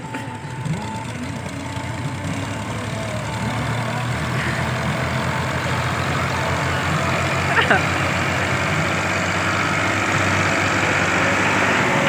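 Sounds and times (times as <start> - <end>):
tractor diesel engines running: 0.0 - 12.0.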